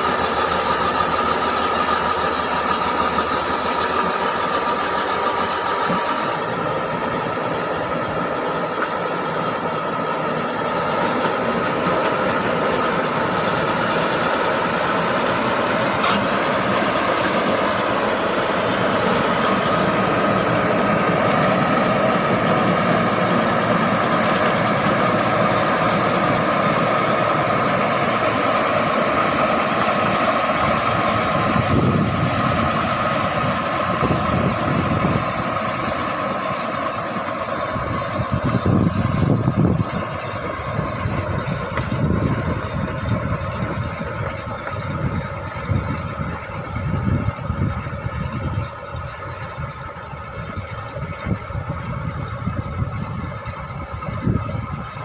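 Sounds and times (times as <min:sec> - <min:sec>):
bulldozer diesel engine running: 0:00.0 - 0:55.0
high mechanical whine: 0:00.0 - 0:55.0.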